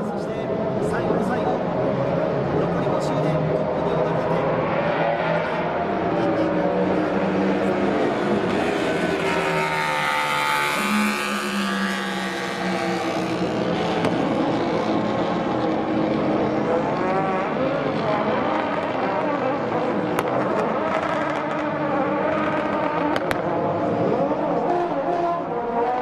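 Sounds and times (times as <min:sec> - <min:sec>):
racing engine revving: 0:00.7 - 0:26.0.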